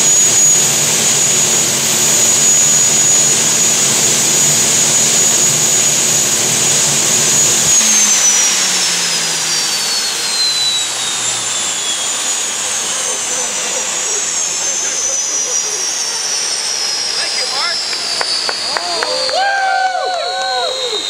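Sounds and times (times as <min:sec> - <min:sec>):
gas turbine roar and whine: 0:00.0 - 0:21.0.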